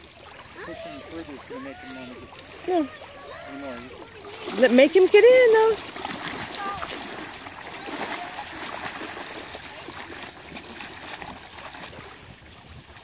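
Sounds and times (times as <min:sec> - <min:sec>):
wading through shallow water: 0:00.0 - 0:13.0.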